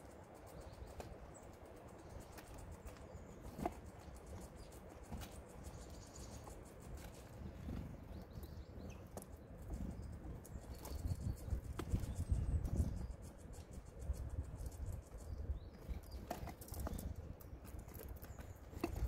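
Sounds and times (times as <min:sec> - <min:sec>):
birds pecking on wooden tray: 0:00.0 - 0:19.0.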